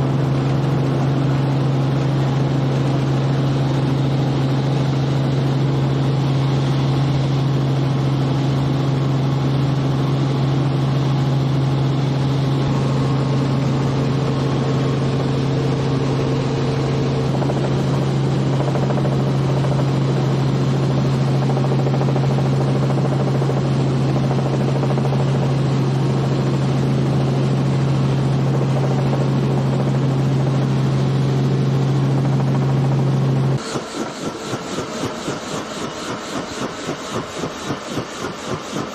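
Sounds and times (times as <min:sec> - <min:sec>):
helicopter drone from cabin: 0:00.0 - 0:38.9.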